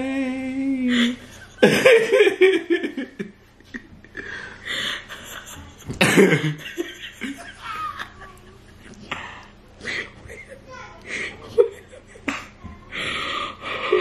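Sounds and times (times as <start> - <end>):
laughter: 1.0 - 12.6.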